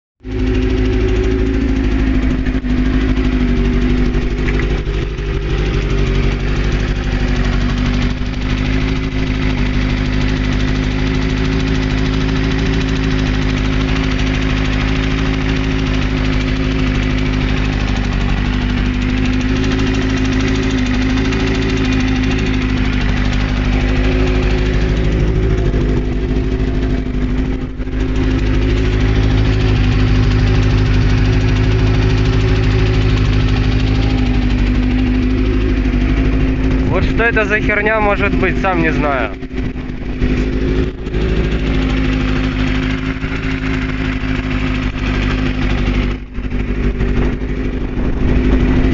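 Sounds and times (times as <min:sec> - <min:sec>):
motorcycle engine idling: 0:00.2 - 0:48.9
rhythmic engine knock: 0:00.2 - 0:48.9.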